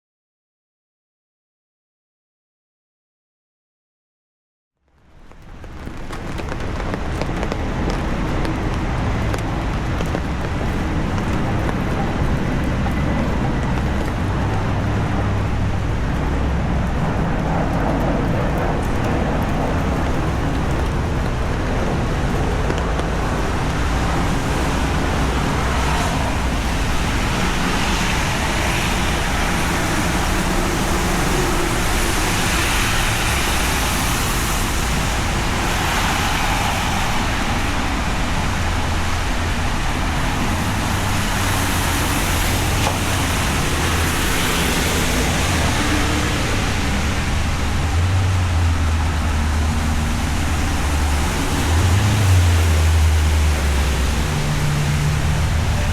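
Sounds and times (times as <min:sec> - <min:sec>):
heavy rain on street: 0:04.8 - 0:55.9
road traffic: 0:04.8 - 0:55.9
vehicles passing on wet road: 0:04.8 - 0:55.9.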